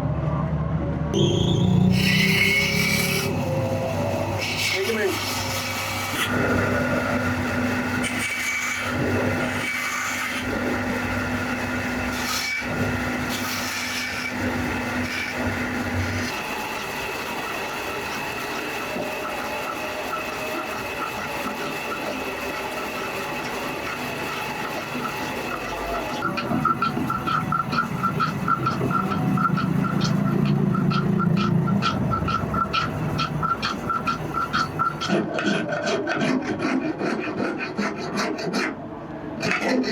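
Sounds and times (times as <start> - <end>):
machine high whine: 0.1 - 35.3
machine rasping: 1.2 - 38.8.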